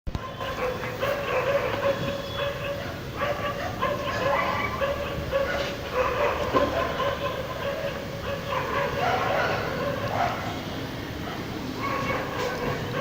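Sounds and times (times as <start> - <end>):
dogs barking: 0.1 - 13.0
low city hum: 0.1 - 13.0.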